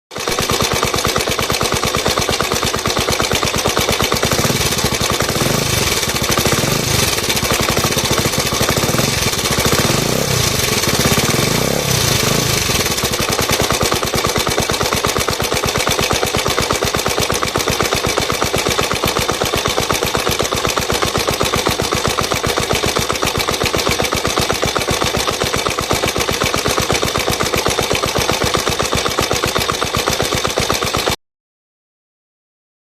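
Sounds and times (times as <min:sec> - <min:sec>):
motorcycle engine ticking clatter: 0:00.1 - 0:31.2.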